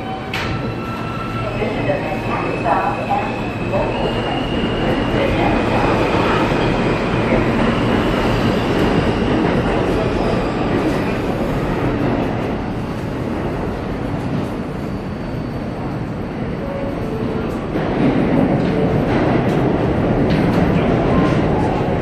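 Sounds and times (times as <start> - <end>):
subway trains rumbling: 0.0 - 22.0.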